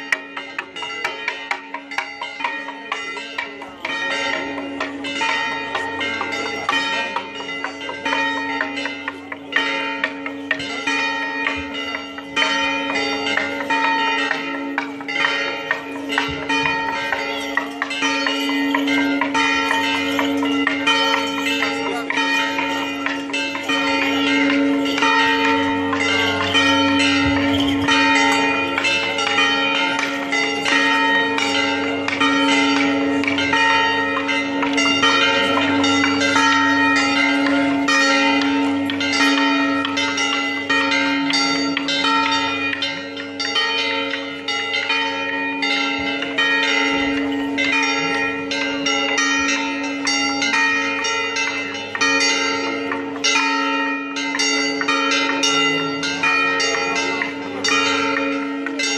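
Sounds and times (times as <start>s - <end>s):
church bells pealing: 0.0s - 58.9s.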